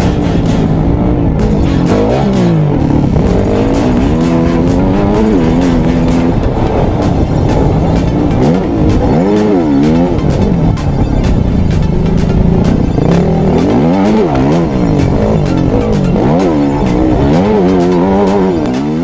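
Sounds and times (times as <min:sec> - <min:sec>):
dirt bike engine revving: 0:00.0 - 0:19.0
music with steady beat: 0:00.0 - 0:19.0.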